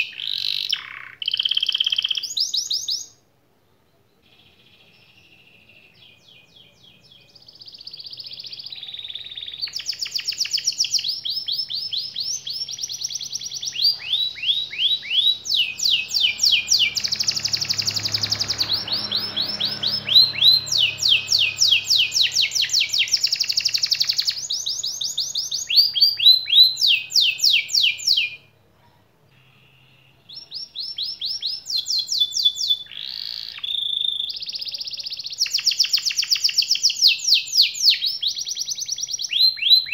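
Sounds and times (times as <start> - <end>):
canary singing trills: 0.0 - 3.2, 4.1 - 28.6, 29.3 - 39.9.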